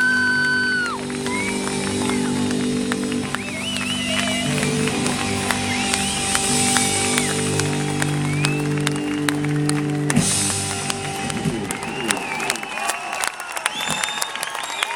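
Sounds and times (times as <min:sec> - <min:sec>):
live band holding chord: 0:00.0 - 0:13.1
crowd cheering and clapping: 0:00.0 - 0:14.9.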